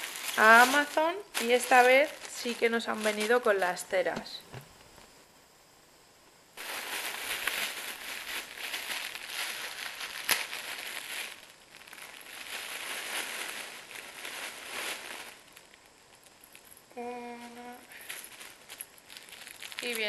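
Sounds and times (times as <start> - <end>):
plastic packaging crinkling: 0.0 - 4.4, 6.6 - 16.8, 17.8 - 20.0.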